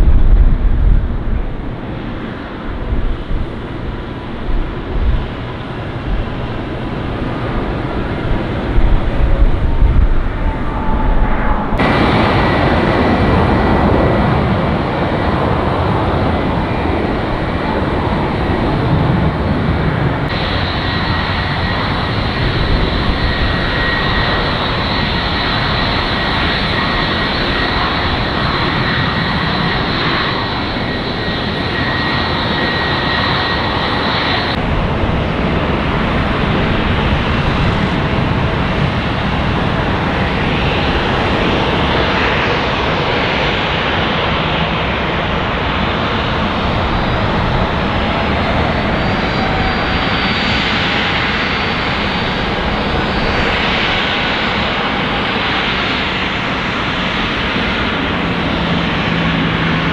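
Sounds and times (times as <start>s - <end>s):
jet engine whine while taxiing: 0.0s - 59.9s
jet roar on runway: 0.0s - 59.9s.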